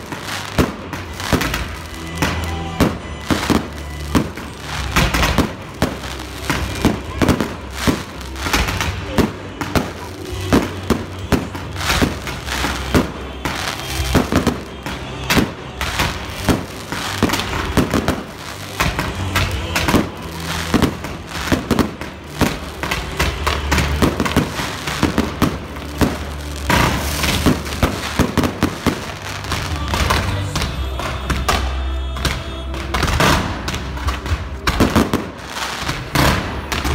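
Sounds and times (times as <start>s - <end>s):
fireworks banging and crackling: 0.0s - 36.9s.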